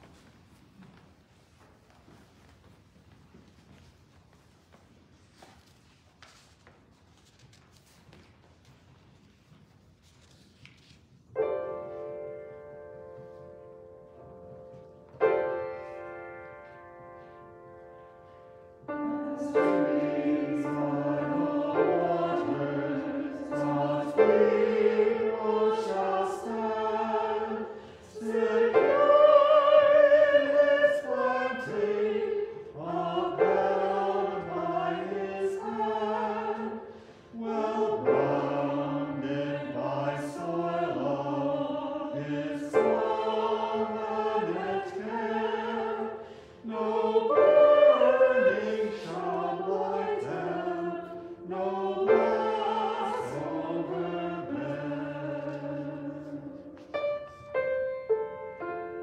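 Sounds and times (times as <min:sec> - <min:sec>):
church choir singing: 0:11.3 - 0:59.0.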